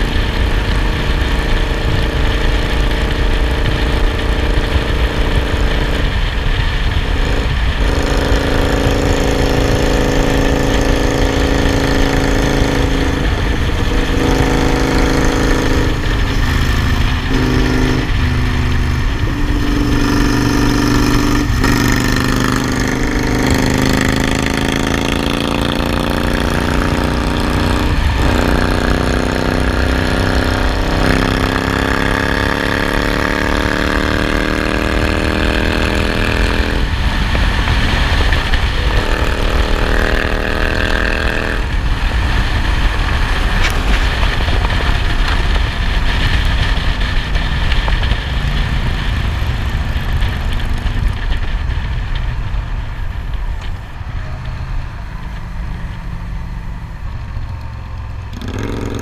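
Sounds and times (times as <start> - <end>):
motorcycle engine accelerating: 0.0 - 59.0
wind rumble on microphone: 0.0 - 59.0.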